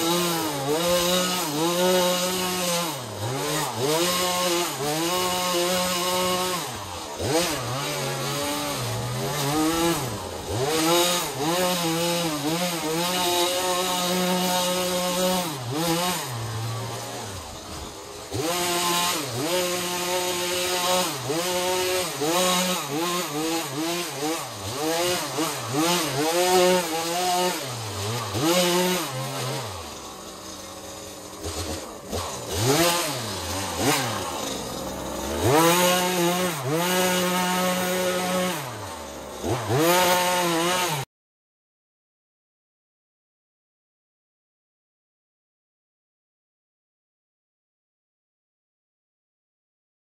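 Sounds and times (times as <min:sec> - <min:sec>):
small two-stroke engine revving: 0:00.0 - 0:41.1.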